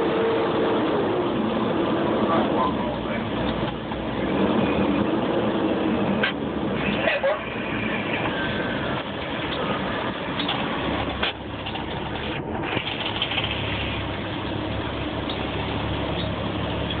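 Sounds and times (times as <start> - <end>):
fire engine engine humming: 0.0 - 17.0.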